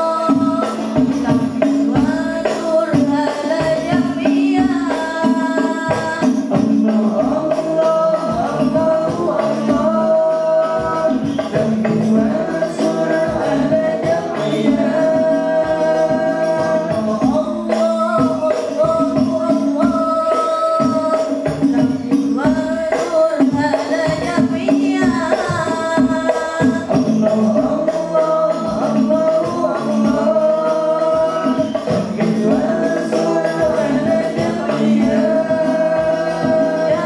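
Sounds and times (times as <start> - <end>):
boy singing into microphone: 0.0 - 37.0
frame drums beating: 0.0 - 37.0.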